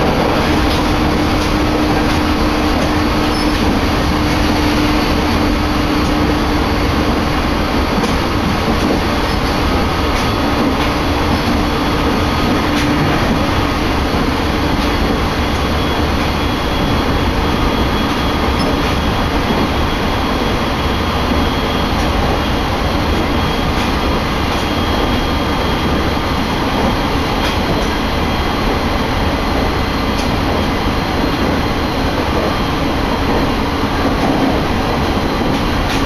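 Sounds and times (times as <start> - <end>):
train cabin running noise: 0.0 - 36.0.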